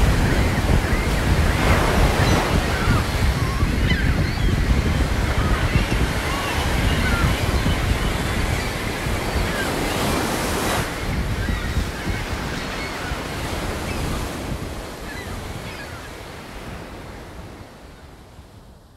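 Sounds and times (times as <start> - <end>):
wind buffeting microphone: 0.0 - 15.8
ocean surf breaking: 0.0 - 17.7.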